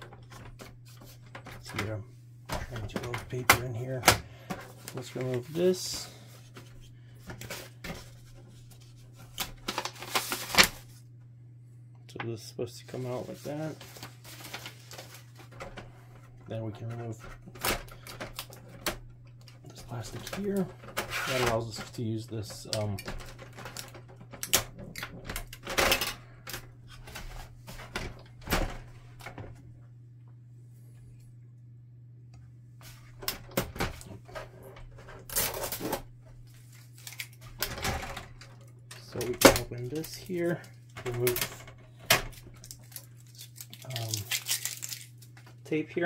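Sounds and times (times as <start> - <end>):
plastic scraping and rustling: 0.0 - 11.0, 12.9 - 29.6, 32.8 - 45.6.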